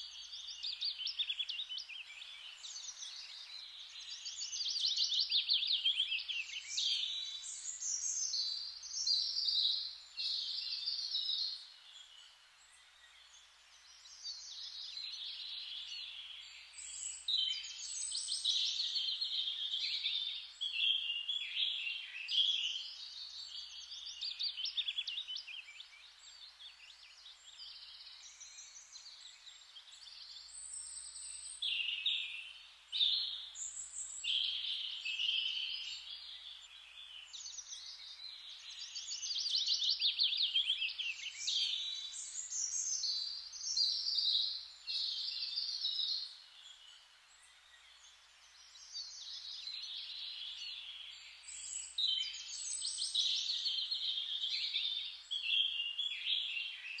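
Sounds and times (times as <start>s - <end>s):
faint steady hiss: 0.0s - 57.0s
songbirds singing: 0.0s - 57.0s.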